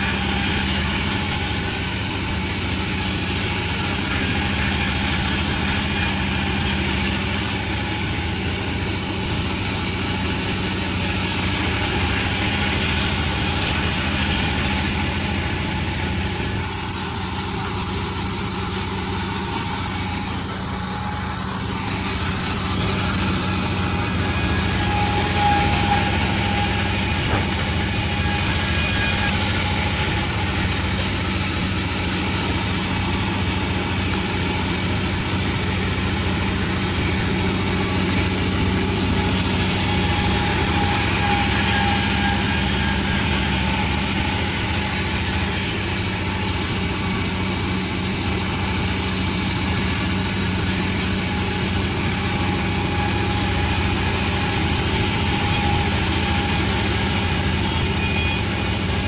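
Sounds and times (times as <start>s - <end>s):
sawmill engine drone: 0.0s - 59.0s.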